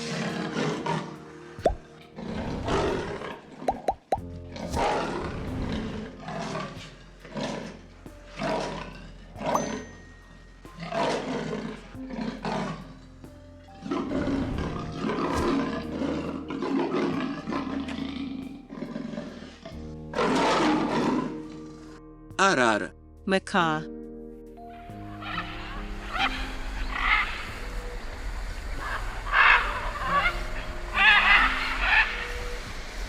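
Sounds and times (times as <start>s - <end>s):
lion roaring: 0.0s - 22.0s, 25.0s - 32.9s
background music: 0.0s - 33.0s.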